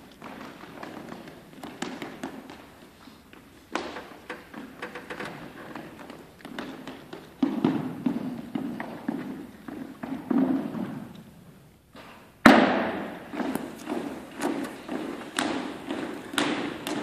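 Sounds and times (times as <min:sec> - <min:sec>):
footsteps on hardwood floor: 0:00.0 - 0:17.0.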